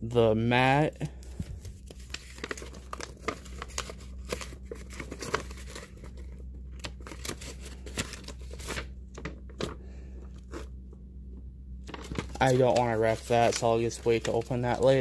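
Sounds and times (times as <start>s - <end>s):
packaging crinkling and rustling: 1.2s - 10.7s, 11.8s - 15.0s.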